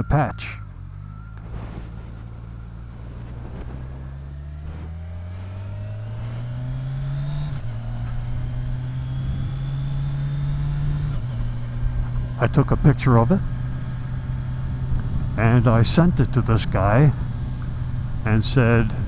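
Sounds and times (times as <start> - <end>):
motorcycle engine accelerating: 0.6 - 19.0.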